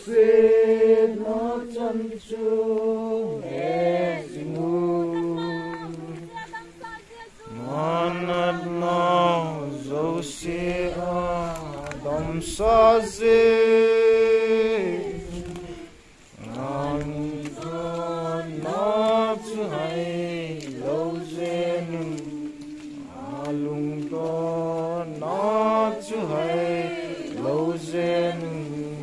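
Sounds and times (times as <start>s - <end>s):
voices singing a hymn: 0.0s - 29.0s.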